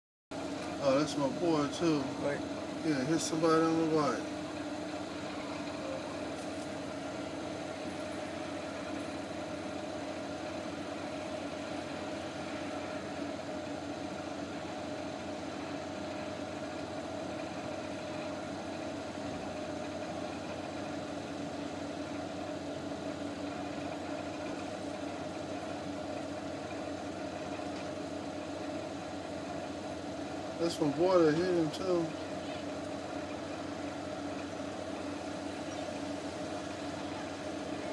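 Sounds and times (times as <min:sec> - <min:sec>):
car idling hum: 0:00.4 - 0:37.9.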